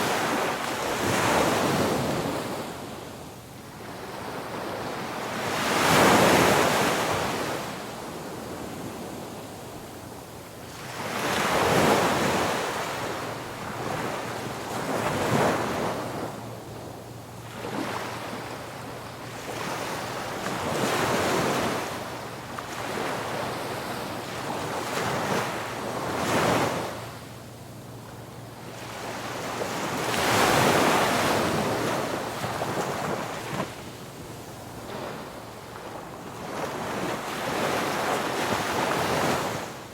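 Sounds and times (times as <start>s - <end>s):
ocean waves breaking on beach: 0.0s - 27.3s, 28.0s - 39.9s.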